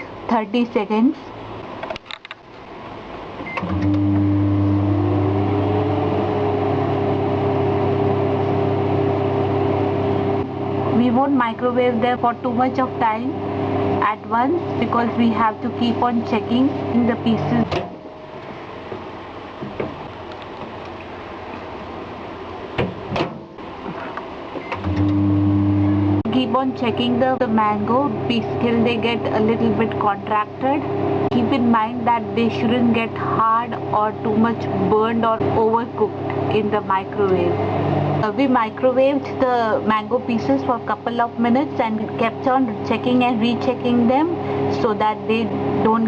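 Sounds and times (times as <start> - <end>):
microwave humming: 3.4 - 46.0.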